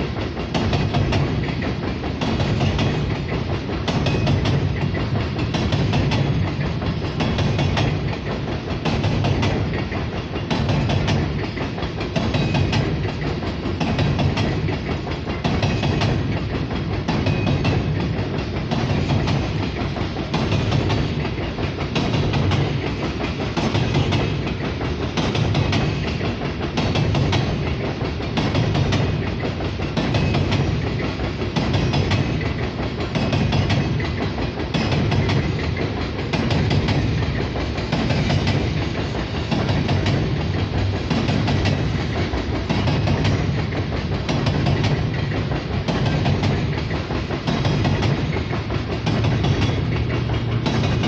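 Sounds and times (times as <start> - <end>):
rhythmic clickety-clack: 0.0 - 51.0
train wheels rumbling on rail: 0.0 - 51.0.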